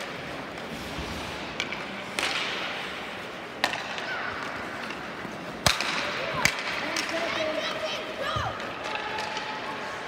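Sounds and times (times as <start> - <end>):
arena noise: 0.0 - 10.0
hockey sticks clacking on puck: 0.0 - 10.0.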